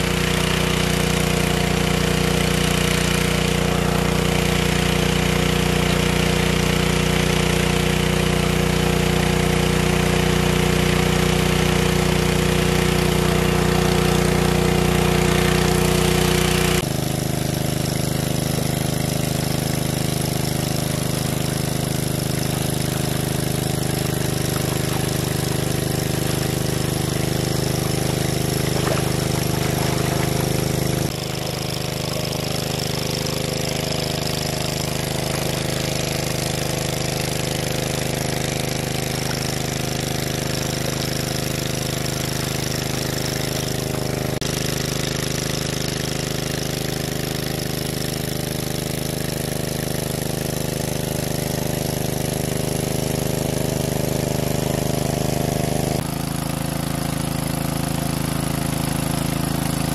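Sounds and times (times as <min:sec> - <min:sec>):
water pump engine running: 0:00.0 - 0:59.9.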